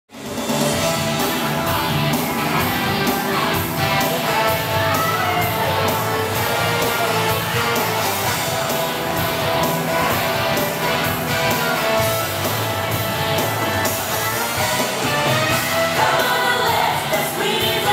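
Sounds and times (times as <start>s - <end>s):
upbeat rock music with electric guitar: 0.1s - 17.9s.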